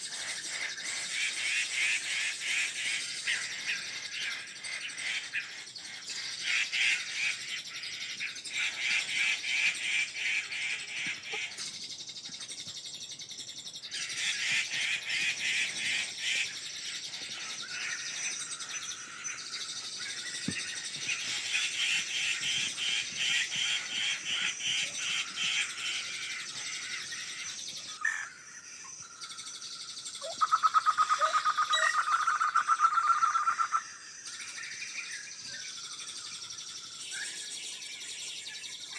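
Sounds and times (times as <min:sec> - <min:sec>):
birds chattering trills: 0:00.0 - 0:38.9
low rapid bird trill: 0:00.0 - 0:38.9.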